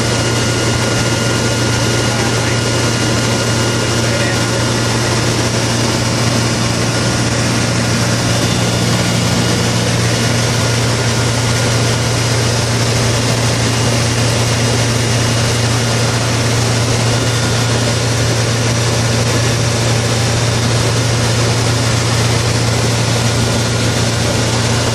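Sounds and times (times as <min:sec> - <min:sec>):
aircraft engine hum: 0:00.0 - 0:24.9.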